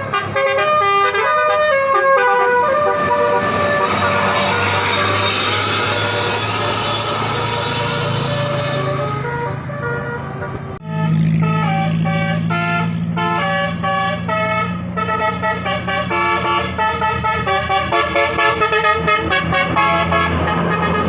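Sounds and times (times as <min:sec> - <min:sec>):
musical bus horn melody: 0:00.0 - 0:21.0.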